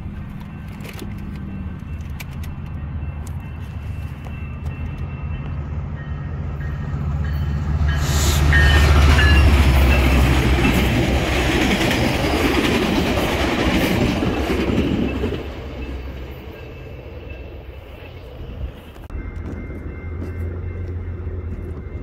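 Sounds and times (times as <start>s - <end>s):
diesel locomotive drone: 0.0s - 22.0s
train wheels on rails: 0.0s - 22.0s.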